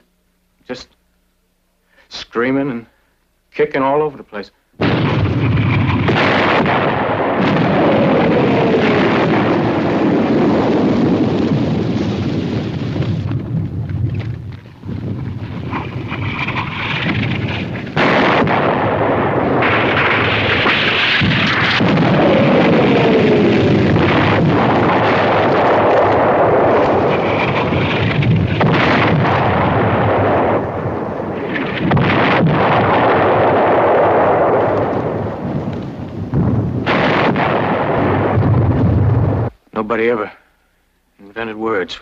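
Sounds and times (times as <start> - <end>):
shell explosions: 4.8 - 39.6.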